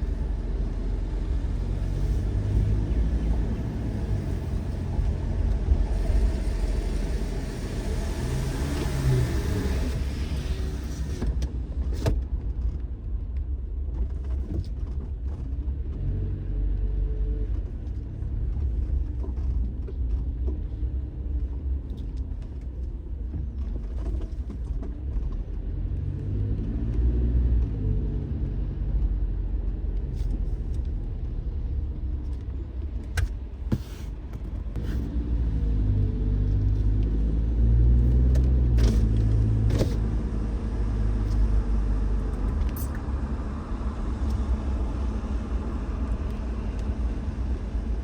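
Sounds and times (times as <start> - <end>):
car engine and tyres rumbling: 0.0 - 48.0.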